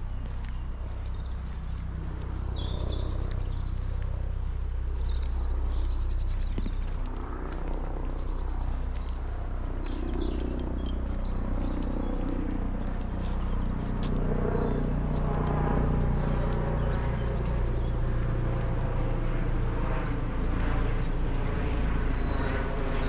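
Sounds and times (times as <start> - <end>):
low background rumble: 0.0 - 23.0
songbirds chirping: 0.0 - 23.0.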